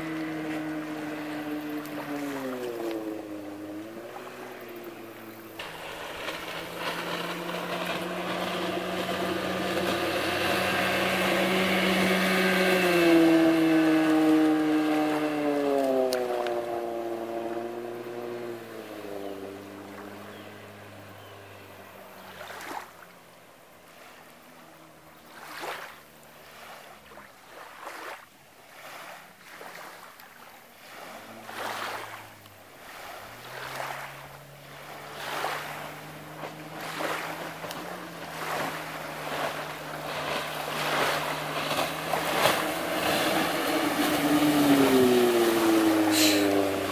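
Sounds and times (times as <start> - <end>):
outboard motor running: 0.0 - 46.9
waves splashing: 0.0 - 46.9.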